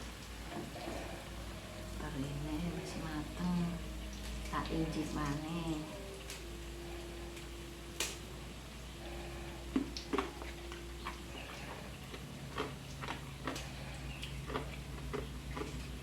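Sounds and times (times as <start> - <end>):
cooking clicks and taps: 0.0 - 1.5, 3.0 - 8.5, 9.6 - 16.0
low steady hum: 0.0 - 16.0.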